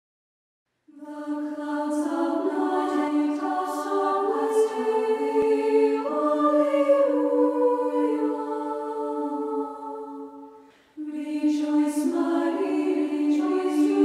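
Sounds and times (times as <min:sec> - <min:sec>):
women's choir singing: 0:00.9 - 0:14.0.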